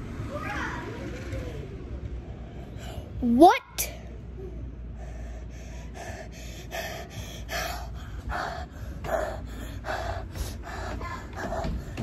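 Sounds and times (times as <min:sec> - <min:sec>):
boy breathing hard: 0:02.3 - 0:12.0.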